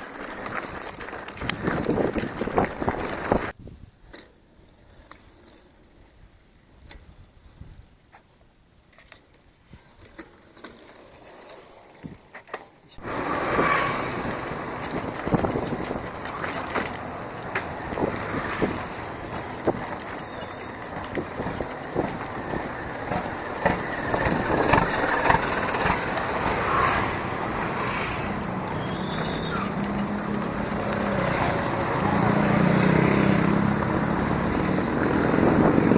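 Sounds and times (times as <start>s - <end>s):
bicycle tyre noise on dirt: 0.0s - 35.9s
bike clicks and rattles: 0.0s - 35.9s.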